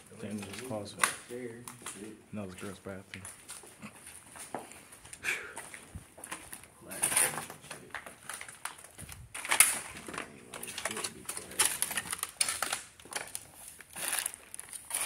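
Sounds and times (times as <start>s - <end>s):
footsteps crunching through paper: 0.2s - 15.0s.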